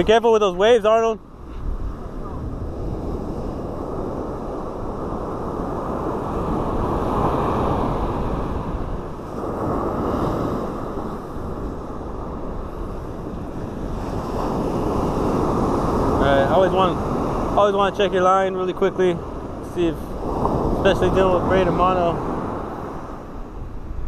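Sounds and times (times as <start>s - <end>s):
ocean surf on sand beach: 0.0s - 24.0s
wind on microphone: 0.0s - 24.0s.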